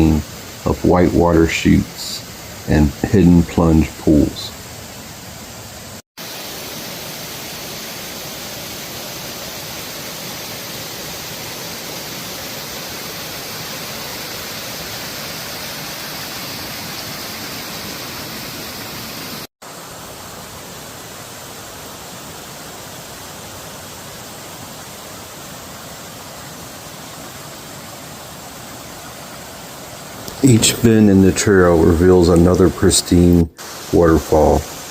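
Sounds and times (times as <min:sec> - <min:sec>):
whitewater rushing over boulders: 0:06.2 - 0:34.9.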